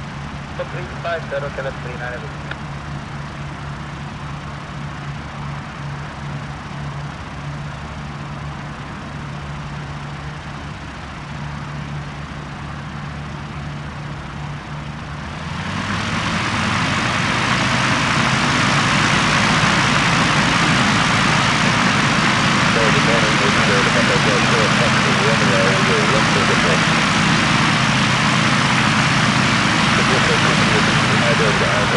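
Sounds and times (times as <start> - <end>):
aircraft engine: 0.0 - 31.9.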